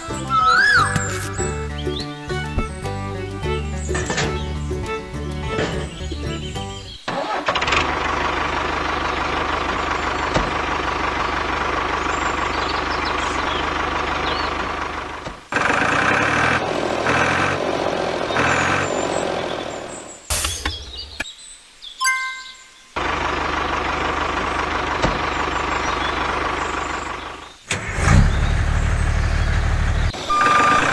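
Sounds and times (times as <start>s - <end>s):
truck engine running: 0.0s - 20.1s, 23.0s - 30.9s.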